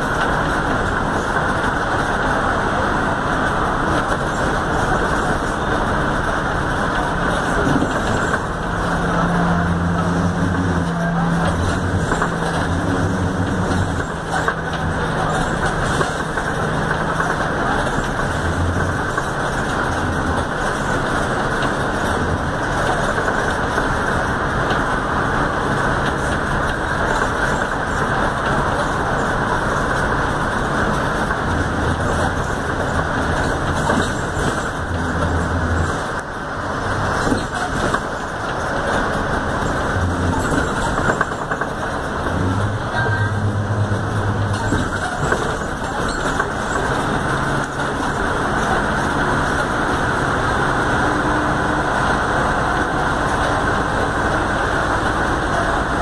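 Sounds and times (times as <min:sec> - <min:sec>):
bus engine and road noise: 0:00.0 - 0:56.0
low diesel engine hum: 0:00.0 - 0:56.0.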